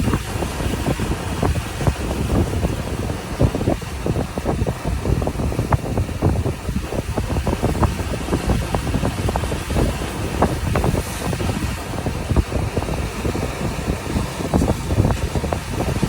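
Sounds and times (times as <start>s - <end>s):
sea waves crashing on shore: 0.0s - 16.0s.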